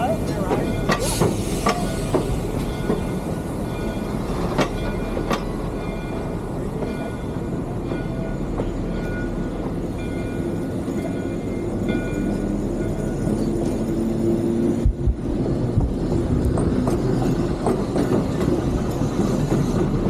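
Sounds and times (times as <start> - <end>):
steam locomotive rumble and clatter: 0.0 - 20.0.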